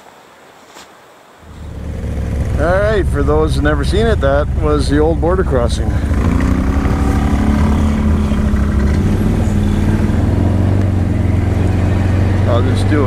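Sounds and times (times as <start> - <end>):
off-road vehicle engine running: 1.5 - 13.0.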